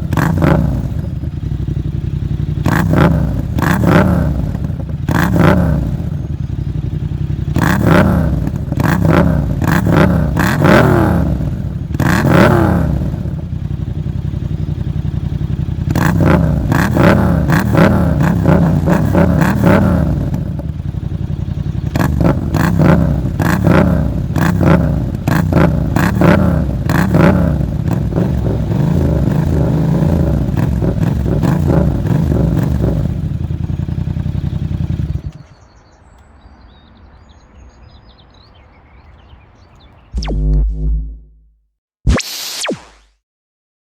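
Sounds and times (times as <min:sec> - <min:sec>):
motorcycle engine revving and idling: 0:00.0 - 0:41.5.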